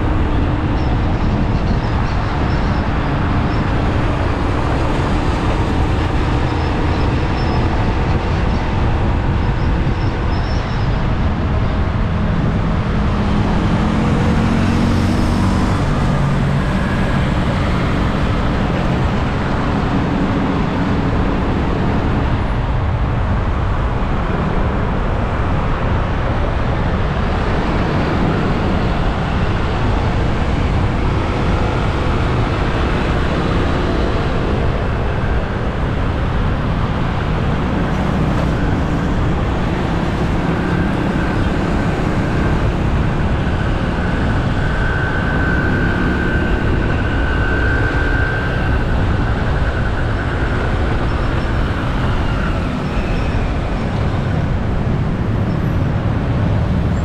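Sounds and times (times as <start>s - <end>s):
city traffic: 0.0s - 57.0s
road and wind rush: 0.0s - 57.0s.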